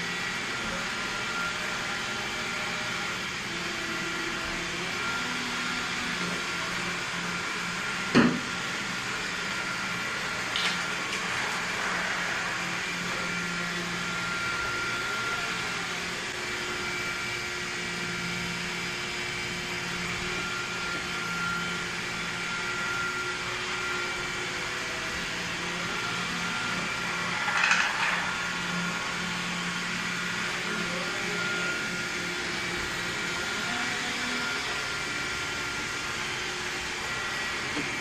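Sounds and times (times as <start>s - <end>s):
robot vacuum running: 0.0s - 38.0s.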